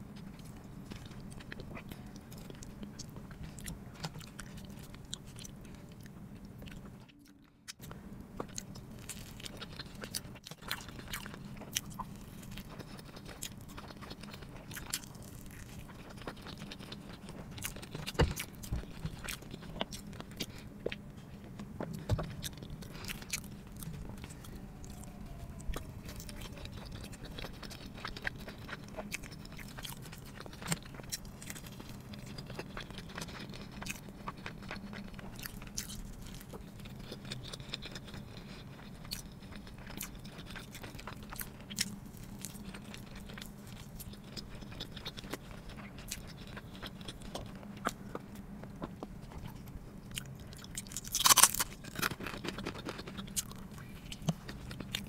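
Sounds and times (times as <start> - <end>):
chewing and biting food: 0.0 - 55.0.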